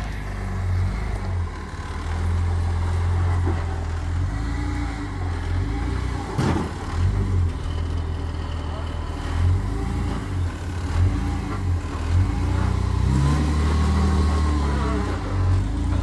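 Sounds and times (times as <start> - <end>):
engine rumbling at low revs: 0.0 - 16.0.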